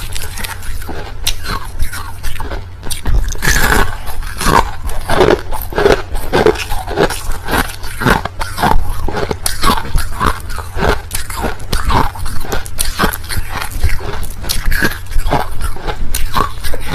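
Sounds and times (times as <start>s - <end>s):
person crunching ice: 0.0s - 16.9s.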